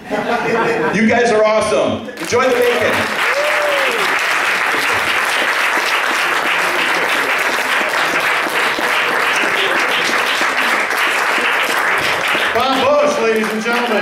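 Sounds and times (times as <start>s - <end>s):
audience applauding: 2.2s - 14.0s.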